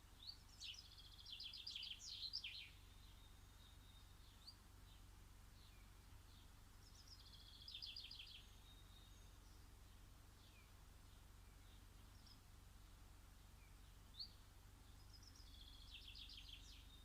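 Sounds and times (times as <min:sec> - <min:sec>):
faint songbirds singing: 0:00.0 - 0:17.0
steady low hum: 0:00.0 - 0:17.0.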